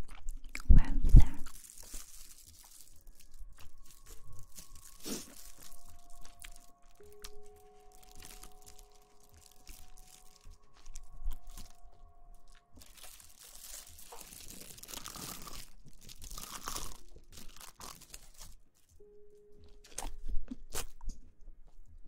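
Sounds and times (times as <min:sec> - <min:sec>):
crinkling and rustling: 0:01.1 - 0:19.1.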